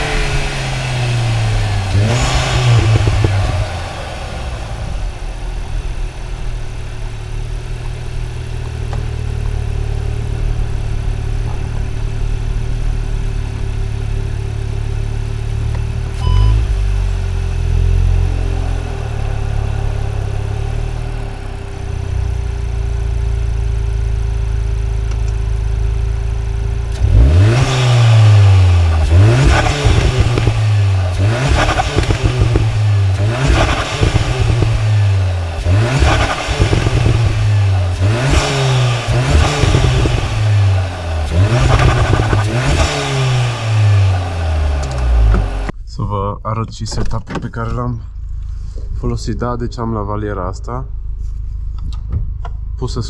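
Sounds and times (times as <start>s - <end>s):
car engine idling and revving: 0.0s - 45.8s, 48.1s - 53.0s.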